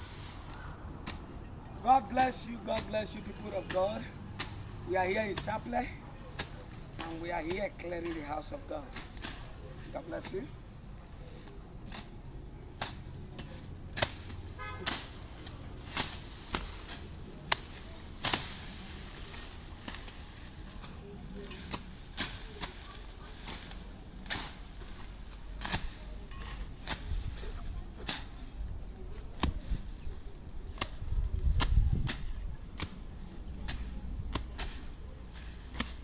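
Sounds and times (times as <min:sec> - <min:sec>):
tools chopping vegetation: 0:00.5 - 0:10.5, 0:11.8 - 0:28.5, 0:29.1 - 0:29.9, 0:30.6 - 0:36.0.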